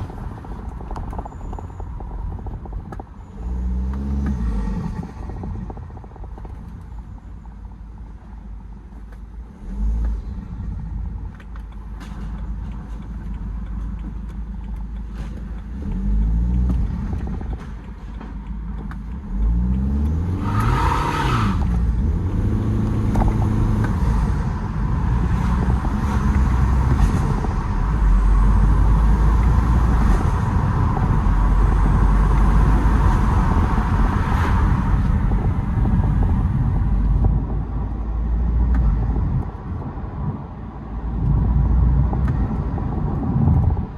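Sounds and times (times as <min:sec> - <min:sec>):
diesel car engine revving: 0:08.4 - 0:43.9.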